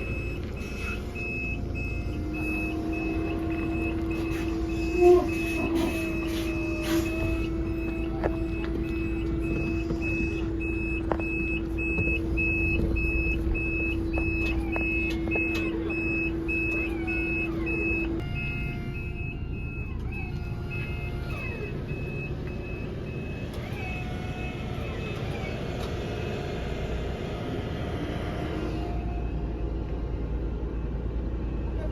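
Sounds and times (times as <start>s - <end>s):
engine rumble: 0.0s - 31.9s
truck reversing alarm beeping: 0.0s - 31.9s.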